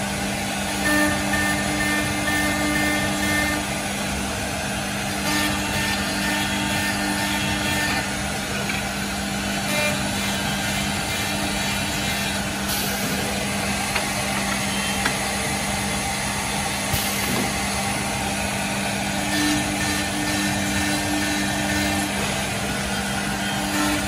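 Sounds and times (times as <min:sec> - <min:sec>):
boring machine humming: 0:00.0 - 0:24.0.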